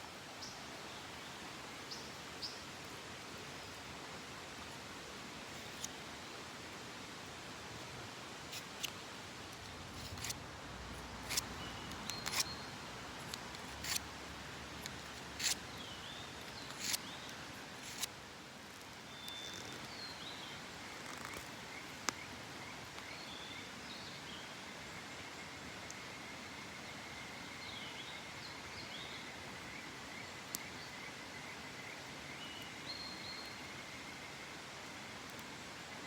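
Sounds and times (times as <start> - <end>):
steady outdoor hiss: 0.0 - 36.0.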